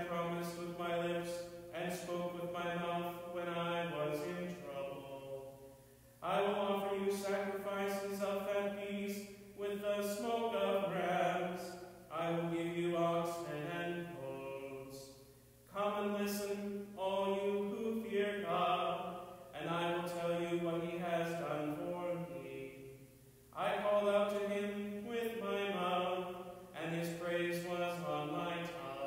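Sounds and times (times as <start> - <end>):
man chanting: 0.0 - 5.6, 6.2 - 15.1, 15.7 - 22.9, 23.5 - 29.0.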